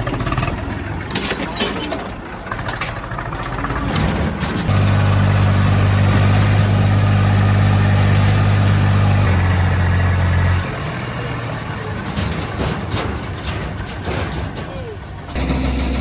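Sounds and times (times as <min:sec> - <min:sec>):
diesel engine humming: 0:00.0 - 0:16.0
noisy mechanical rumble: 0:00.0 - 0:16.0.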